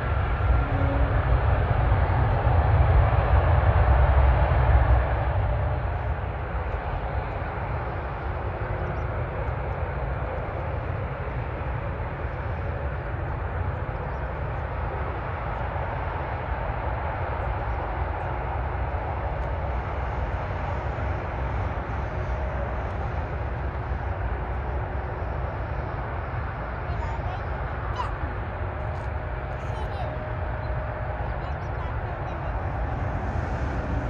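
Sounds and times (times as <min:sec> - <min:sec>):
jet engines: 0:00.0 - 0:34.0.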